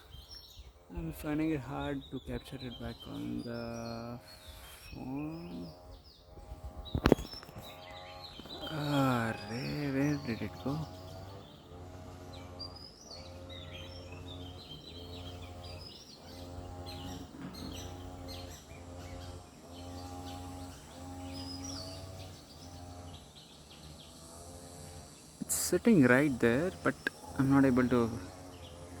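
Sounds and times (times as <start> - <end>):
birds chirping and whistling: 0.0 - 29.0
pulsing low hum: 0.0 - 29.0.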